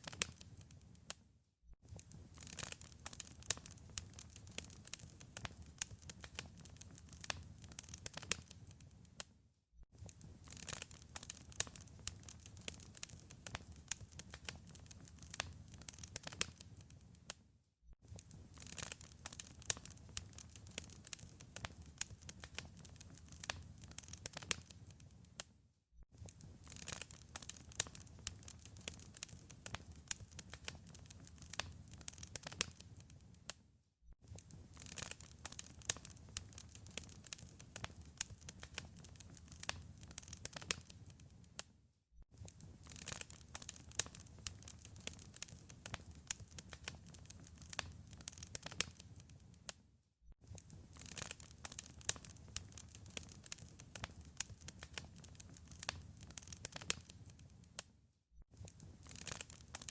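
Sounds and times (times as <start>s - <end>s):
wood fire crackling: 0.0s - 1.2s, 1.9s - 9.3s, 10.0s - 17.4s, 18.1s - 25.5s, 26.2s - 33.5s, 34.3s - 41.7s, 42.4s - 49.8s, 50.4s - 57.9s, 58.6s - 59.9s.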